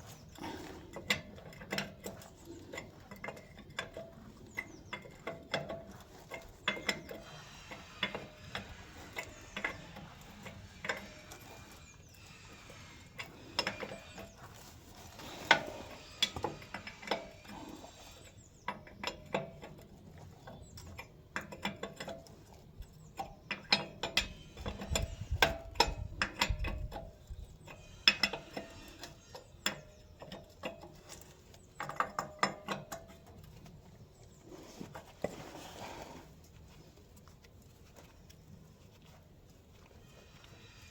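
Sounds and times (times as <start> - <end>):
hand tools clicking on metal: 0.0 - 35.6.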